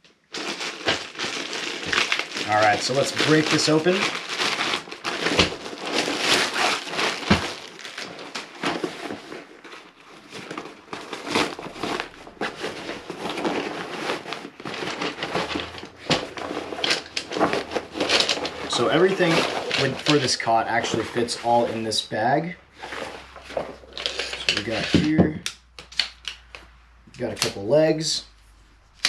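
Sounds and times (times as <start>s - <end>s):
plastic wrap crinkling: 0.0s - 25.1s
fabric rustling: 0.3s - 22.1s, 22.7s - 24.9s.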